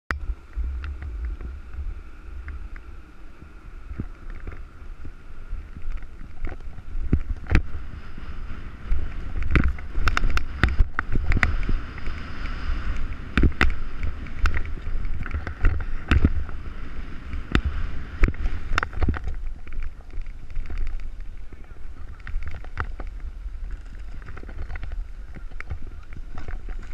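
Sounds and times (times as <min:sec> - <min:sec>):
wind buffeting microphone: 0:00.1 - 0:26.9
snowboard scraping over snow: 0:00.2 - 0:26.9.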